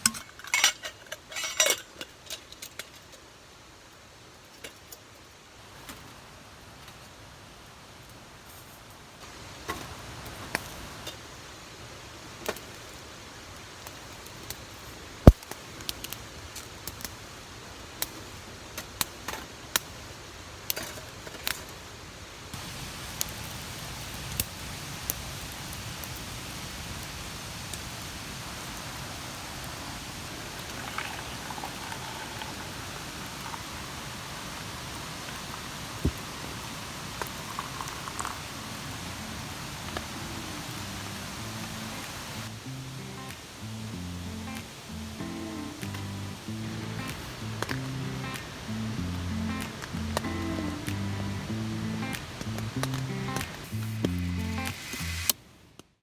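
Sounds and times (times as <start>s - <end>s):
campfire crackling: 7.6s - 55.9s.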